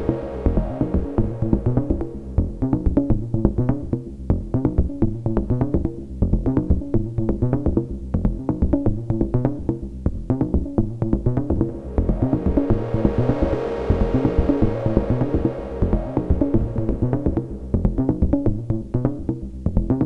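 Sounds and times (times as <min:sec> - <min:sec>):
synthesizer percussive pattern: 0:00.0 - 0:20.0.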